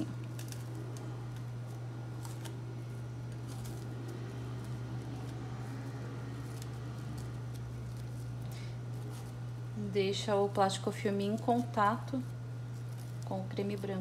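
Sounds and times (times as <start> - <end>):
plastic cling film crinkling: 0.0 - 14.0
steady low hum: 0.0 - 14.0.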